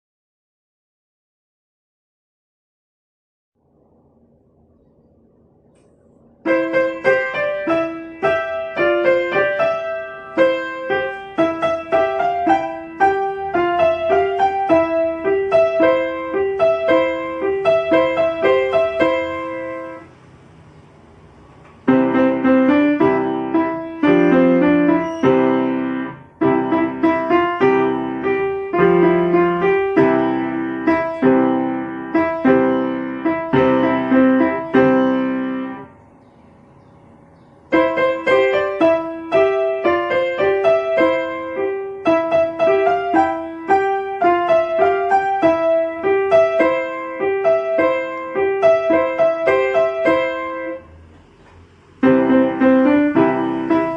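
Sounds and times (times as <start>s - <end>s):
beginner piano playing: 4.5s - 53.9s.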